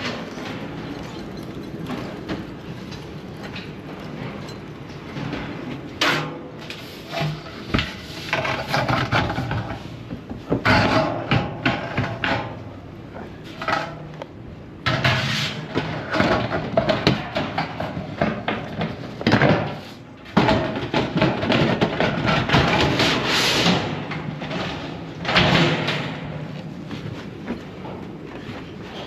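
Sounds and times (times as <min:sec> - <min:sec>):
building materials knocking and scraping: 0:00.0 - 0:14.0, 0:14.8 - 0:29.0.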